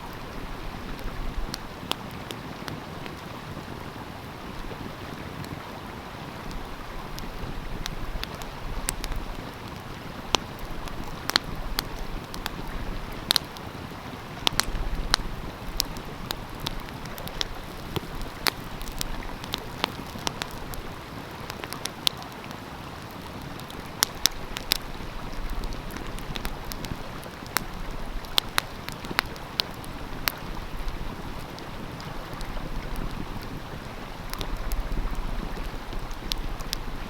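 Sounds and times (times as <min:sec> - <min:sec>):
flowing stream: 0:00.0 - 0:37.0
wood fire crackling and popping: 0:00.0 - 0:37.0.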